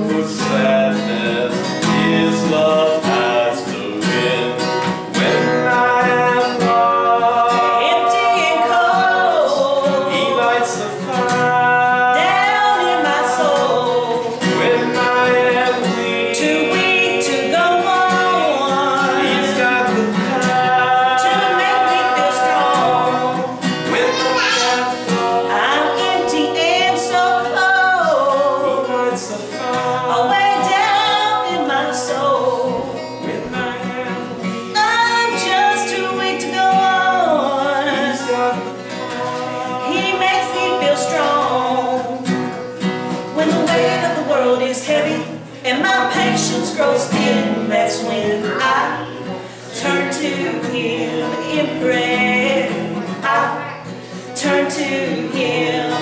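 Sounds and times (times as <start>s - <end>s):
woman singing slow song: 5.2s - 42.3s, 43.3s - 56.0s.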